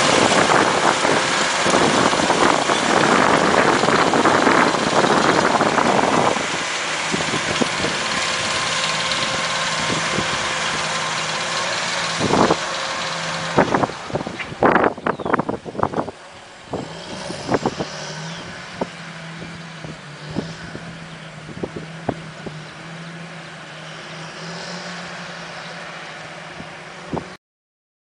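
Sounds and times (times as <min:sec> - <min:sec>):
tractor diesel engine droning: 0:00.0 - 0:27.4.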